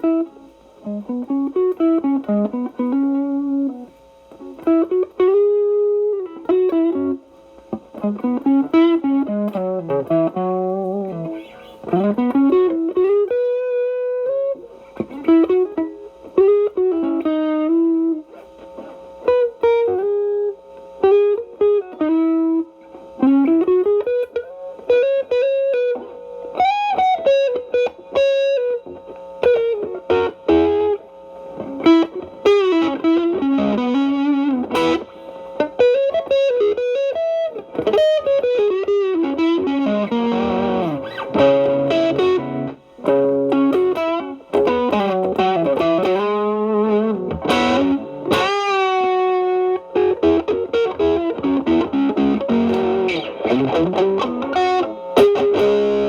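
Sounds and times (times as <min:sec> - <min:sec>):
electric guitar playing blues lead: 0:00.0 - 0:18.2, 0:19.3 - 0:56.0.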